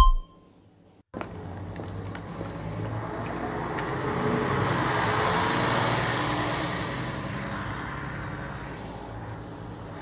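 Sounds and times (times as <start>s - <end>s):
bus driving by: 1.3s - 10.0s.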